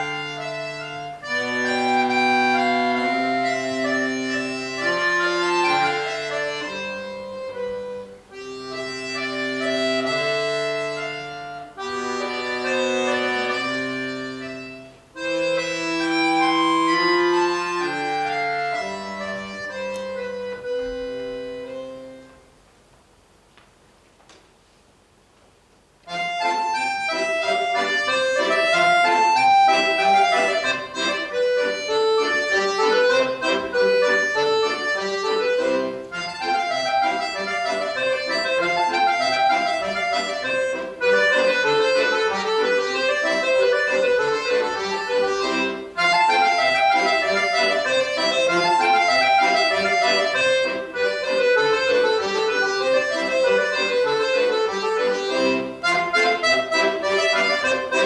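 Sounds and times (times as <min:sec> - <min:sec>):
solo accordion playing: 0:00.0 - 0:22.6, 0:26.0 - 0:58.0.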